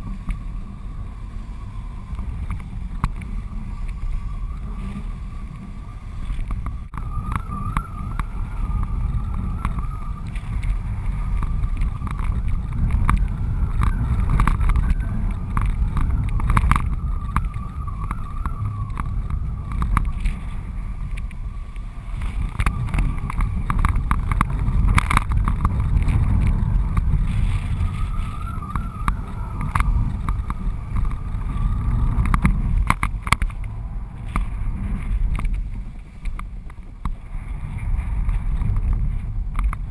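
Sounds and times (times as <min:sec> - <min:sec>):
thin wavering whistle: 0:00.0 - 0:32.8
wind rumbling over camera: 0:00.0 - 0:39.9.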